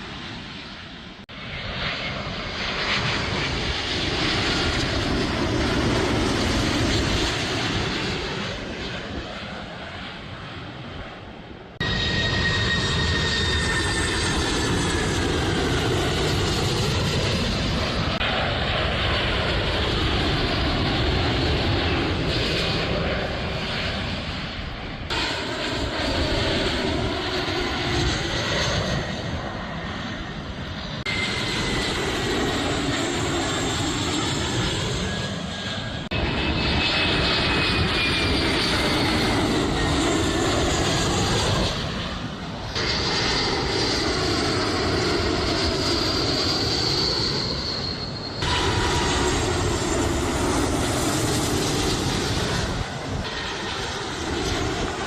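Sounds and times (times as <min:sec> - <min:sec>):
jet airliner engines running: 0:00.0 - 0:55.0.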